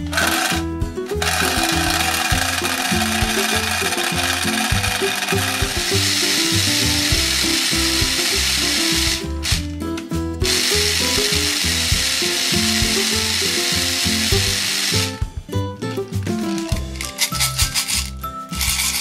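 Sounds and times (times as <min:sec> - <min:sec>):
toy blender whirring: 0:00.0 - 0:09.7, 0:10.4 - 0:15.2, 0:16.4 - 0:19.0
background music: 0:00.0 - 0:19.0.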